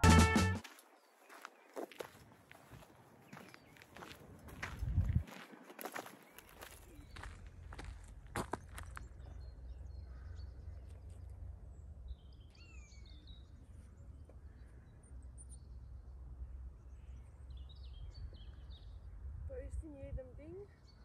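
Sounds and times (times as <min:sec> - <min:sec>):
small birds chirping: 0:00.7 - 0:21.0.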